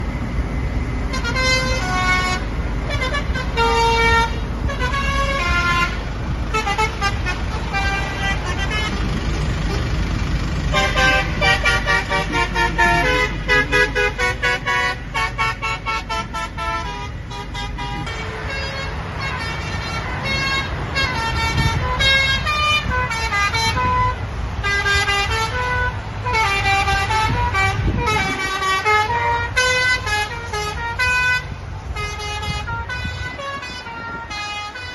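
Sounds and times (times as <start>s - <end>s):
truck engine running low: 0.0s - 34.9s
multi-tone truck air horn melody: 1.1s - 9.9s, 10.7s - 34.9s.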